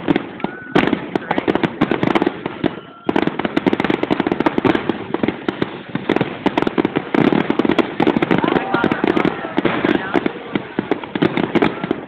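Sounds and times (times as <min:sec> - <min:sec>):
fireworks bursts and crackling: 0:00.0 - 0:12.0.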